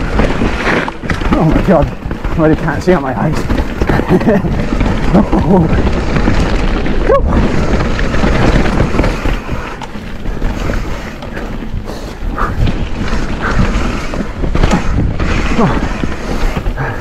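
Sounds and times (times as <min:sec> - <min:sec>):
bike tyres rolling through mud: 0:00.0 - 0:17.0
wind rushing over microphone: 0:00.0 - 0:17.0.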